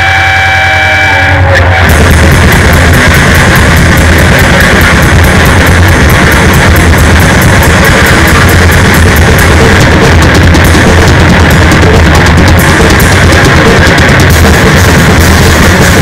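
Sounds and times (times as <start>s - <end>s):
distorted guitar noise: 0.0s - 16.0s
fast drum beat: 1.8s - 16.0s.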